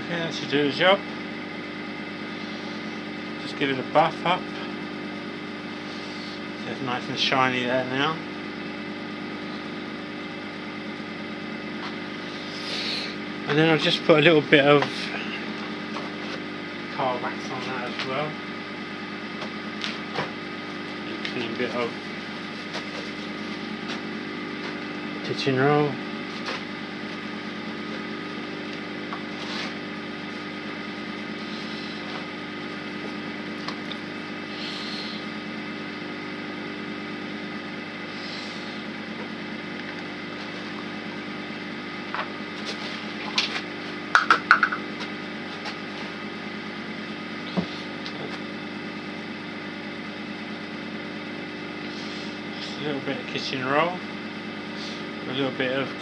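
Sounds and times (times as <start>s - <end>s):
wood lathe motor hum: 0.0s - 56.0s.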